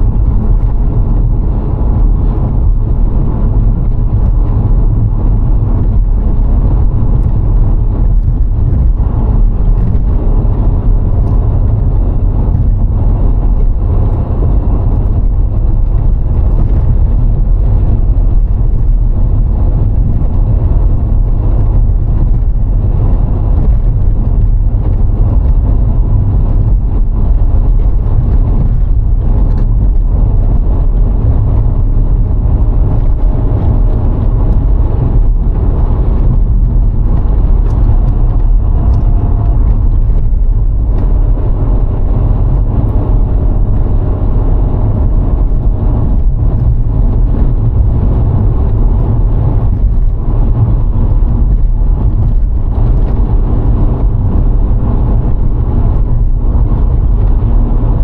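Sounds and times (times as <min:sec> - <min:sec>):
car engine rumble: 0:00.0 - 0:58.0
wind noise: 0:00.0 - 0:58.0.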